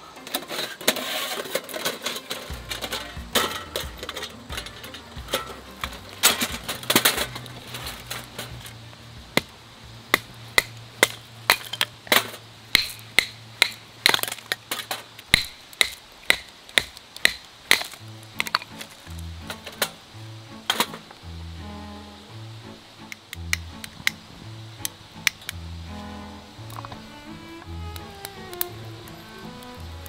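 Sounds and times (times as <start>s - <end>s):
metal fire pit clanking: 0.0s - 21.5s, 22.6s - 30.0s
hatchet splitting firewood: 0.4s - 21.8s, 22.7s - 30.0s.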